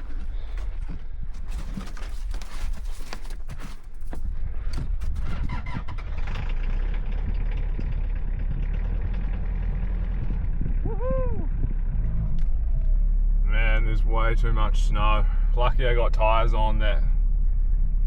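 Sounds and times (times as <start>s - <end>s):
van engine rumbling: 0.0s - 18.0s.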